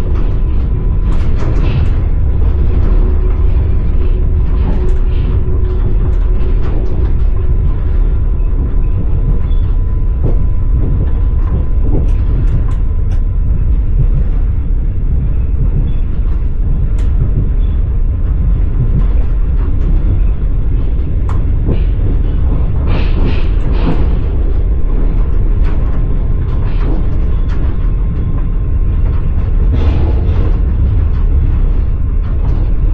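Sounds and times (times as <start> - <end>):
train wheels rumbling: 0.0 - 32.9.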